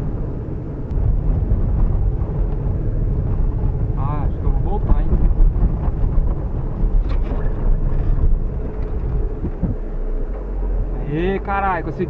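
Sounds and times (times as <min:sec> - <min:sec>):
car engine rumbling under load: 0:00.0 - 0:12.0.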